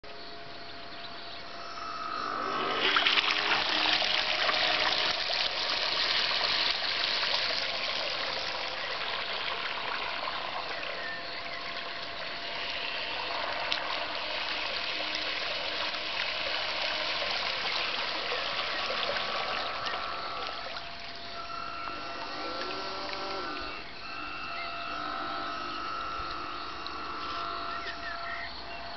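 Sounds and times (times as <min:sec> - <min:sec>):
water rushing and splashing: 0:01.8 - 0:28.3.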